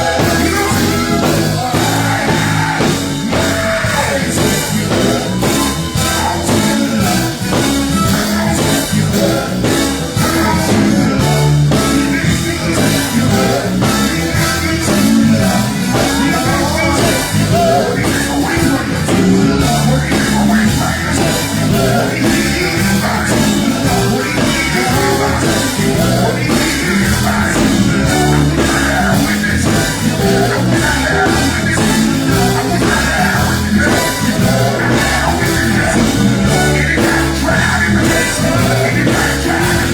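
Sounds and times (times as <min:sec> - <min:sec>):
driving drum beat: 0:00.0 - 0:39.9
live gospel band playing: 0:00.0 - 0:39.9.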